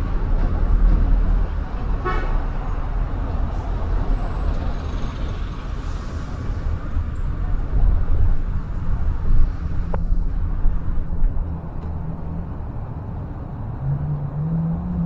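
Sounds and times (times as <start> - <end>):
car engine and road noise: 0.0 - 15.0
surrounding traffic: 0.0 - 15.0.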